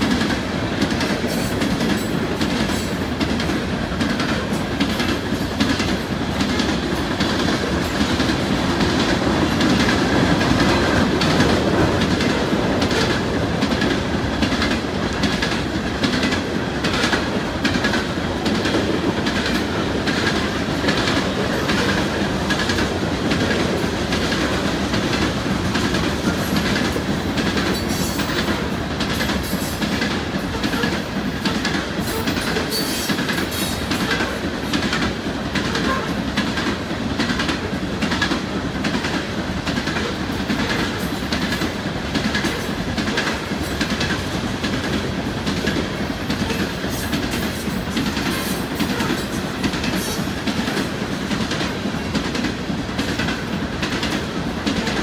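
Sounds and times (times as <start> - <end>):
train cars rumbling past: 0.0 - 55.0
wheels clacking over rail joints: 0.0 - 55.0.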